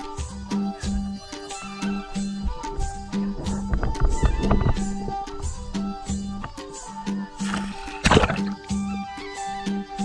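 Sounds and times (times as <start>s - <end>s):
folk-style tune with percussion: 0.0s - 10.0s.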